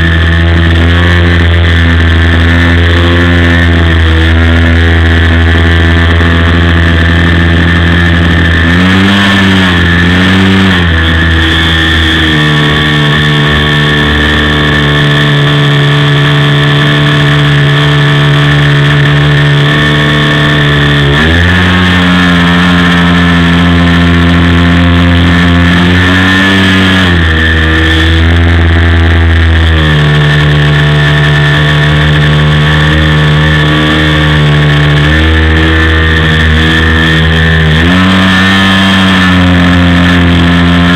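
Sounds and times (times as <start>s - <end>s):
model plane engine running: 0.0s - 40.9s.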